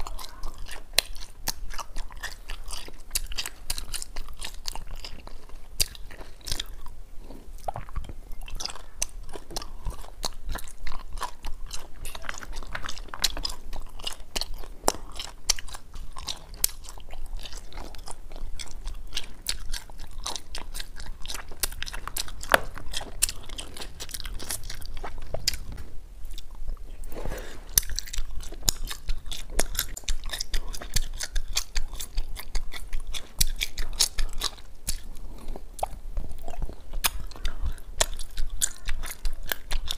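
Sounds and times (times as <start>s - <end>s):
chewing wax candy: 0.0s - 39.9s.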